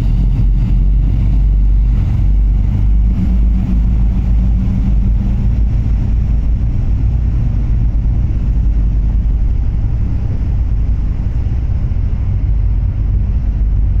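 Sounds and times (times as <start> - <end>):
ship engines rumbling: 0.0 - 14.0.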